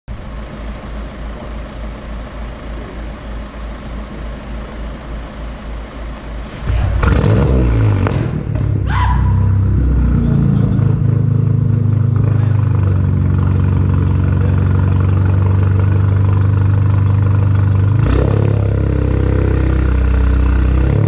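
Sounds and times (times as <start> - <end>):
car exhaust rumbling: 0.1 - 21.0.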